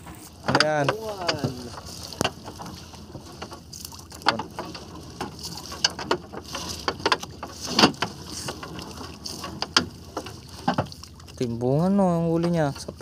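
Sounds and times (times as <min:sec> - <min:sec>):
knocks and clatter on boat: 0:00.0 - 0:13.0.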